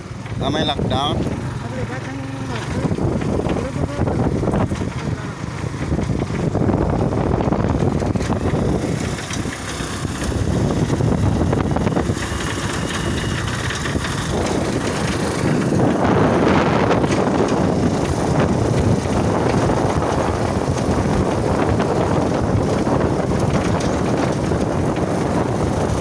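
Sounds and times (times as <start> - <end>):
motorcycle engine: 0.0 - 26.0
road noise: 0.0 - 26.0
wind rushing over microphone: 0.0 - 26.0.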